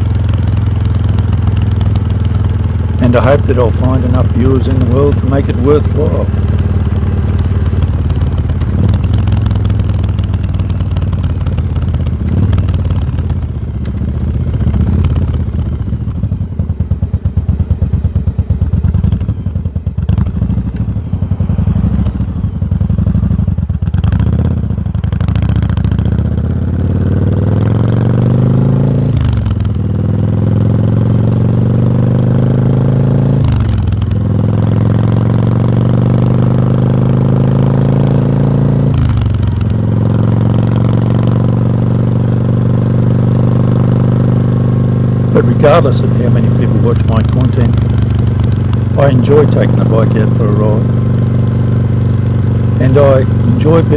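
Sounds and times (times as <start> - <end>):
motorcycle exhaust revving: 0.0 - 53.9.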